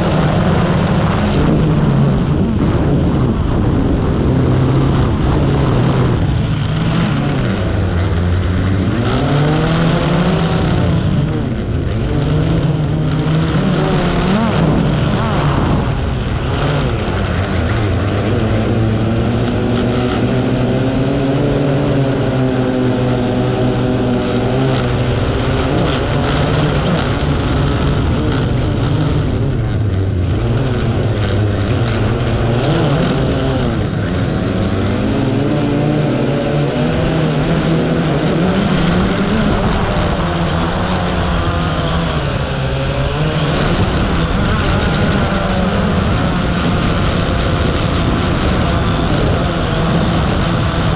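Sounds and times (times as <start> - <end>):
drone propellers buzzing: 0.0 - 50.9.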